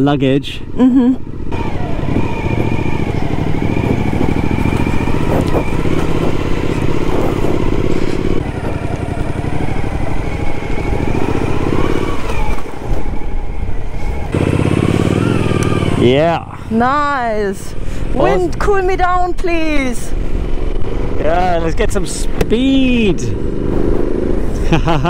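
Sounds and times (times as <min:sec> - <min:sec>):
motorcycle engine running: 0:00.0 - 0:12.6, 0:14.2 - 0:25.0.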